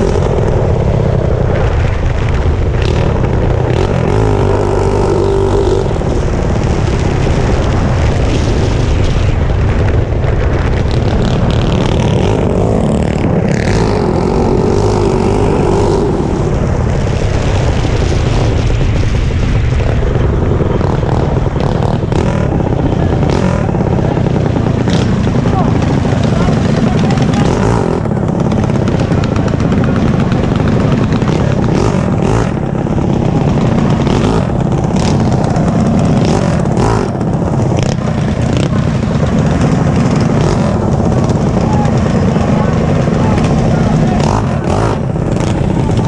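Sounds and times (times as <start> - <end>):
mini bike engine running: 0.0 - 46.0.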